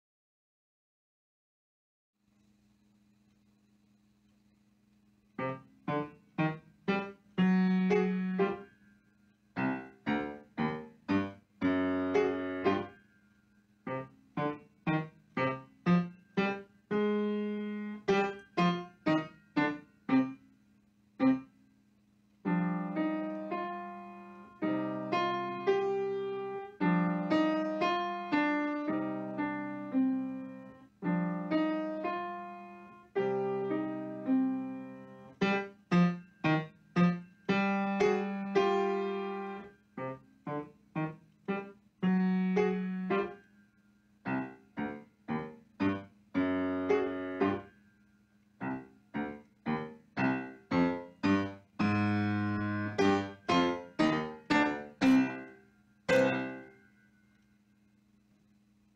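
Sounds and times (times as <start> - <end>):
solo grand piano: 5.3 - 21.8, 22.4 - 47.9, 48.5 - 57.4.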